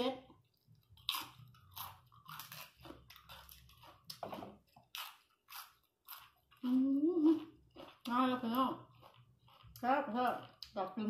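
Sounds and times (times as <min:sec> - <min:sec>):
chewing crisp food crunches: 0:00.4 - 0:11.0.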